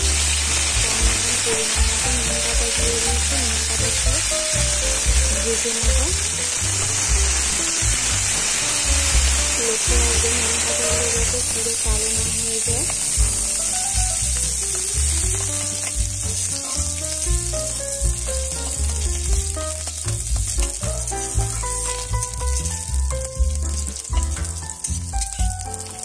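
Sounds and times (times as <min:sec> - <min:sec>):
background music: 0:00.0 - 0:26.0
leaves sizzling in hot oil: 0:00.0 - 0:26.0.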